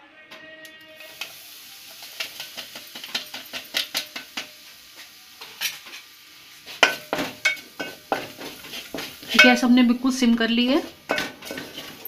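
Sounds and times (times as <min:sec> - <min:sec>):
hot oil sizzling in a pan: 0:01.0 - 0:12.0.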